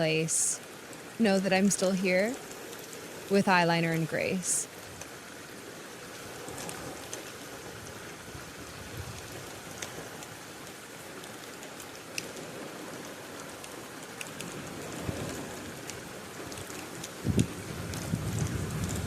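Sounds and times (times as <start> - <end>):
raindrops ticking: 0.0 - 19.0
steady rain: 0.0 - 19.0.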